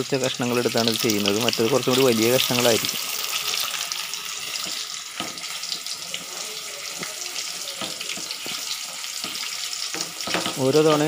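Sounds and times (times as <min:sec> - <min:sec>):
oil sizzling in a wok: 0:00.0 - 0:11.0.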